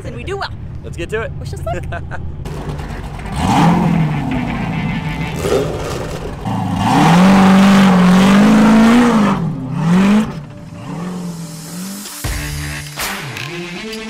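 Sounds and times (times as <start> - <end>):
race car engine revving: 2.4 - 14.0.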